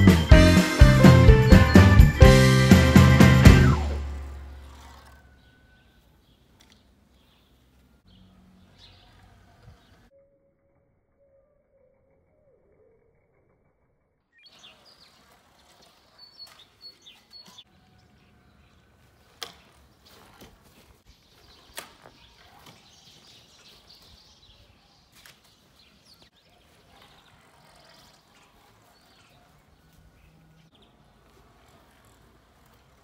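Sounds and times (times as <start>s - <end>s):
outdoor ambience: 0.0s - 33.0s.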